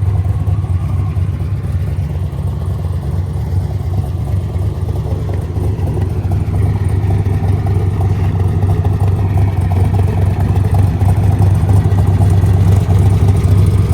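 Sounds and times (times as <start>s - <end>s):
car engine idling deep rumble: 0.0s - 13.9s.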